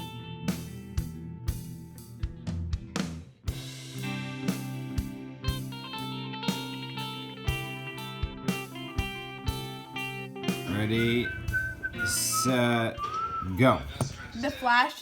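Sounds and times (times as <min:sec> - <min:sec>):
instrumental music with steady beat: 0:00.0 - 0:14.2.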